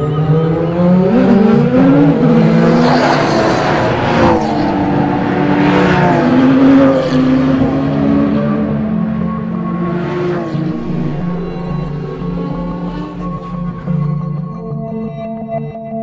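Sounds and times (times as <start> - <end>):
racing cars passing by: 0.0 - 14.1.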